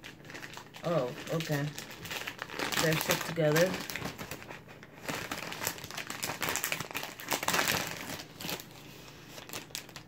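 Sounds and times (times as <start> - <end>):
plastic snack packet crinkling: 0.0 - 10.0.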